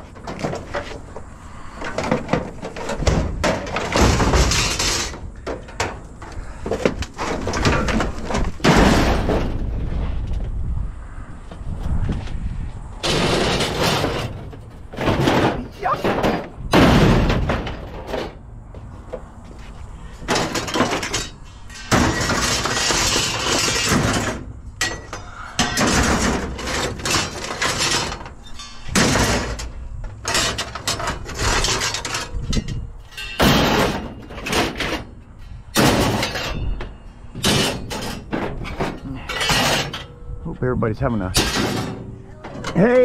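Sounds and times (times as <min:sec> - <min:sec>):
scrap metal clanging and scraping: 0:00.0 - 0:10.4, 0:13.0 - 0:43.0.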